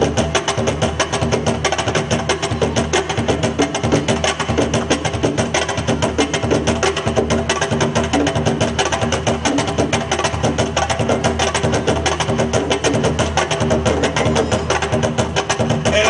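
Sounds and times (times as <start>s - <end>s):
fast percussion rhythm: 0.0s - 16.0s.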